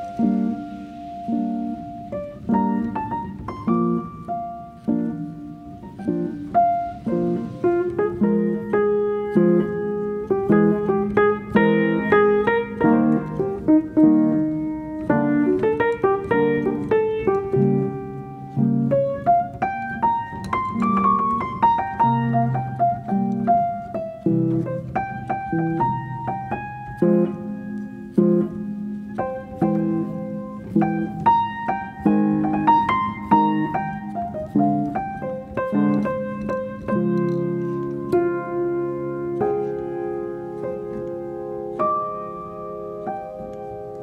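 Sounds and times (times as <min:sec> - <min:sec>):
piano music: 0:00.0 - 0:44.0.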